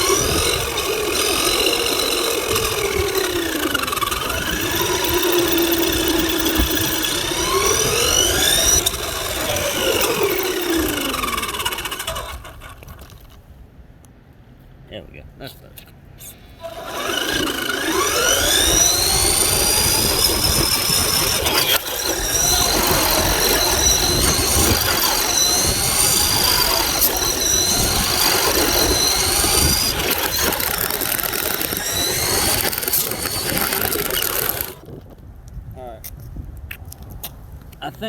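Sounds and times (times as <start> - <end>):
electric motor whining: 0.0 - 13.3, 16.4 - 35.0.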